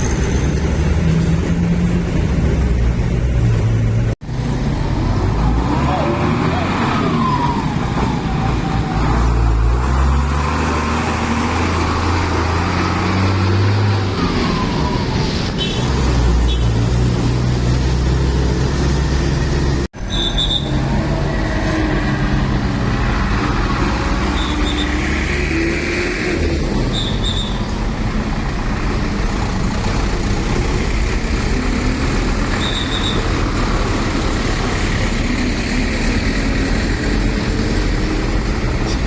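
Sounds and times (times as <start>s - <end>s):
background traffic noise: 0.0s - 39.0s
heavy trucks diesel engines: 0.0s - 39.0s.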